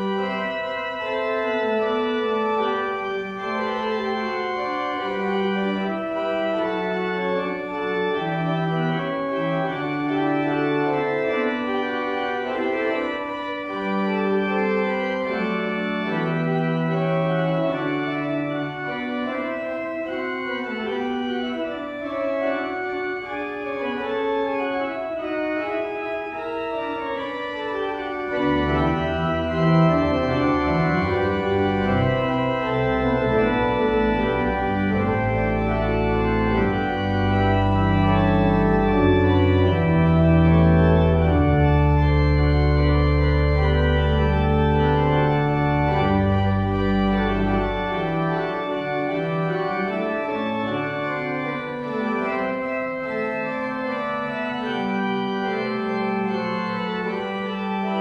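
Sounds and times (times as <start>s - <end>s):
deep organ pedal bass notes: 0.0s - 58.0s
organ chords: 0.0s - 58.0s.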